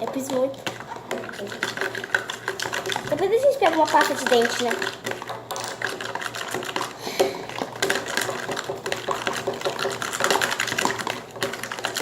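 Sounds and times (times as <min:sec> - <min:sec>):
sticky clicks of slime stirring: 0:00.0 - 0:12.0.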